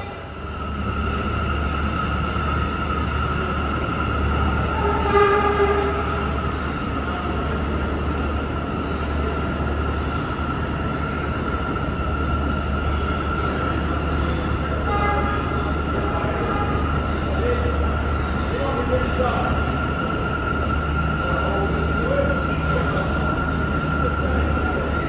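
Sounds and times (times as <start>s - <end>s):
subway train running: 0.0s - 25.0s.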